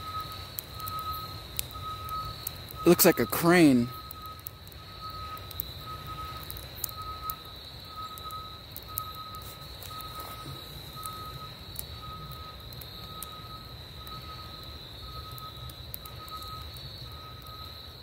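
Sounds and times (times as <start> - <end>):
continuous high-pitched tone: 0.0 - 18.0
reversing alarm beeping: 0.0 - 18.0.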